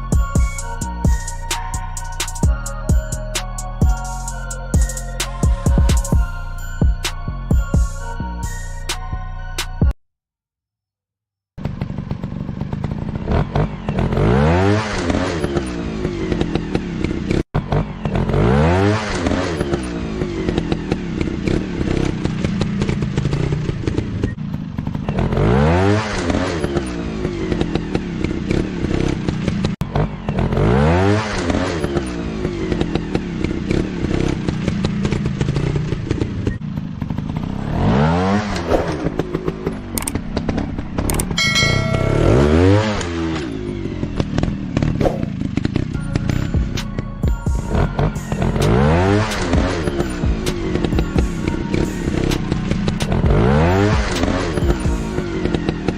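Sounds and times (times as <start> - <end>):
motorcycle engine idling and revving: 0.0 - 10.0, 11.1 - 55.9.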